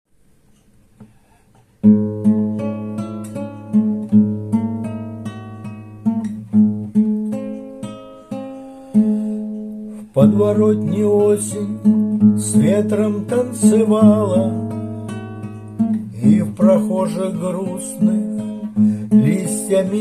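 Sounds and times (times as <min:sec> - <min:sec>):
acoustic guitar plucked notes: 0:01.8 - 0:20.0.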